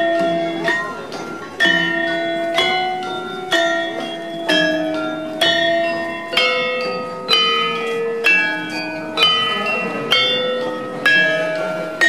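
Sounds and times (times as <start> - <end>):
gamelan gongs struck: 0.0 - 12.0.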